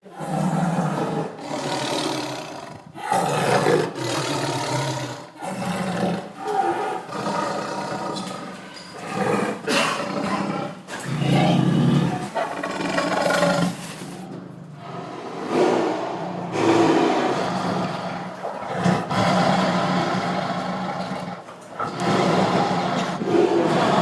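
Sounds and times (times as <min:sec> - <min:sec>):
big cat growling and roaring: 0:00.0 - 0:24.0.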